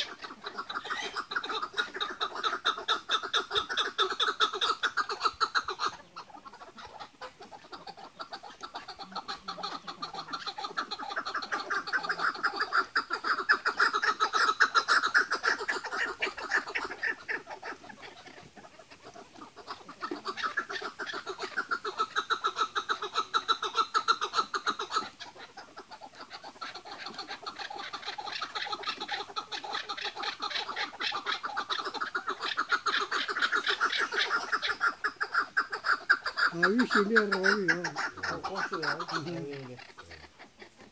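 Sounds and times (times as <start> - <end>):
partridges chattering calls: 0.0 - 40.9.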